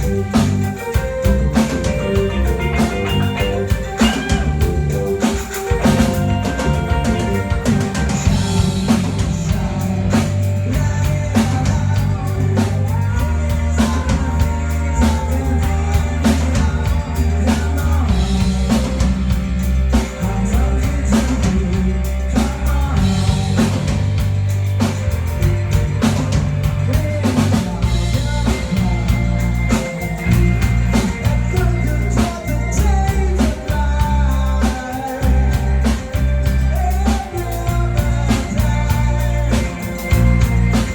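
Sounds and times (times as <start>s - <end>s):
drum kit beat: 0.0s - 40.9s
low bass line: 0.0s - 40.9s
rock-pop band playing: 0.0s - 40.9s.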